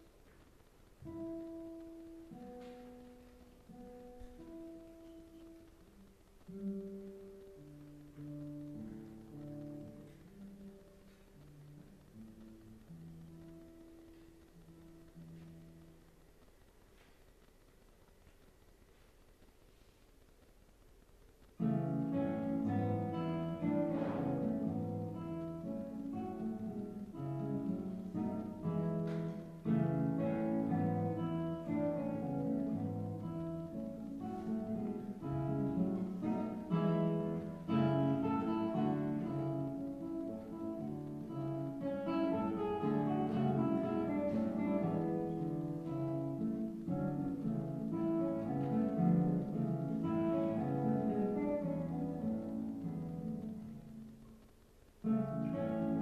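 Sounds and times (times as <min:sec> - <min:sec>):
classical guitar playing: 0:00.0 - 0:17.1, 0:21.6 - 0:56.0.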